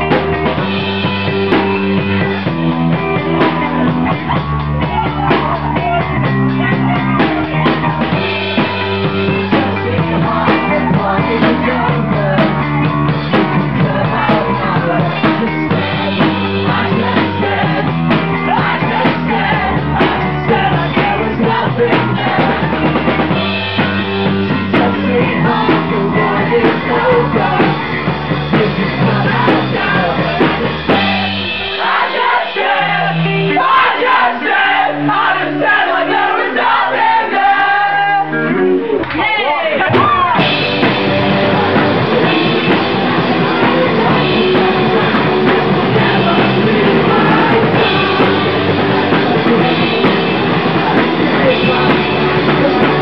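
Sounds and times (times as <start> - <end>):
electric guitar: 0.0 - 34.2, 36.6 - 53.0
drum kit: 0.0 - 39.2, 39.8 - 53.0
person singing: 3.3 - 34.4, 39.8 - 53.0.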